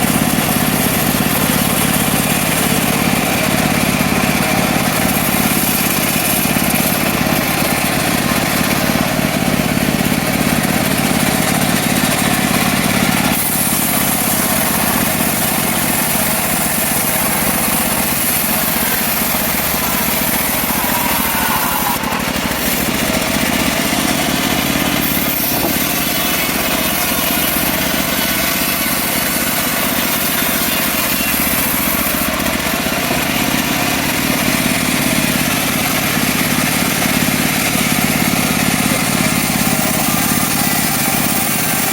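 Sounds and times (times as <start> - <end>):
petrol engine running steadily: 0.0 - 41.9.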